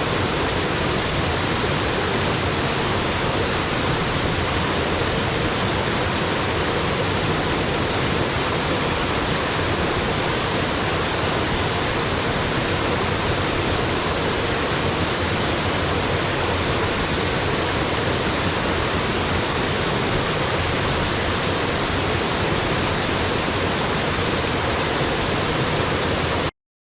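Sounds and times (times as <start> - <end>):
waterfall rushing: 0.0 - 26.5.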